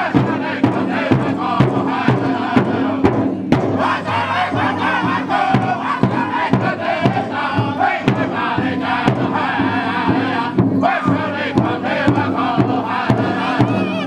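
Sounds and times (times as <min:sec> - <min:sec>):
bass drum beats: 0:00.0 - 0:14.0
men singing in unison: 0:00.0 - 0:14.0.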